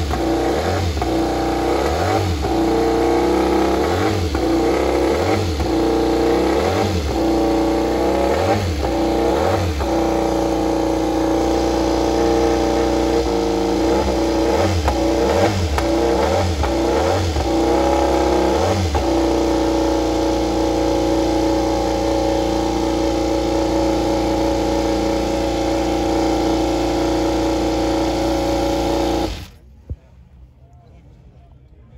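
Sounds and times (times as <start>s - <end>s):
motorcycle engine revving: 0.0s - 29.6s.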